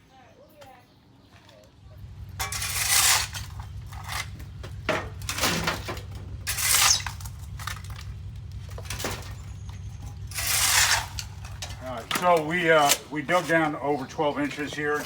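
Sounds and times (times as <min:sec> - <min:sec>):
scraping rustling bursts: 0:02.4 - 0:15.0.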